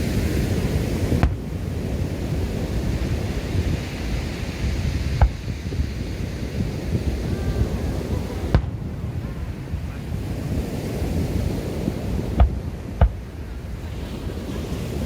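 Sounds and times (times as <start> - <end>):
fireworks bangs: 0.0 - 14.6
wind rumble on microphone: 0.0 - 15.0.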